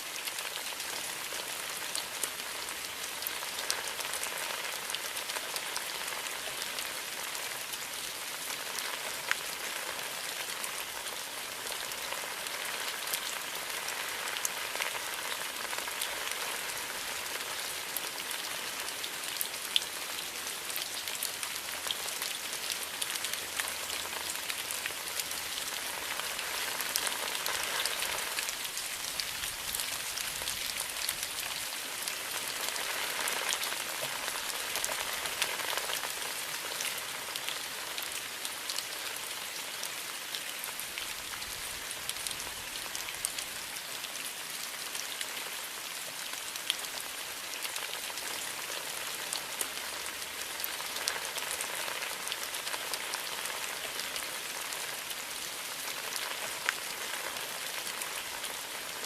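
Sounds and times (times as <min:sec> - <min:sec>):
rain falling on forest: 0:00.0 - 0:59.0.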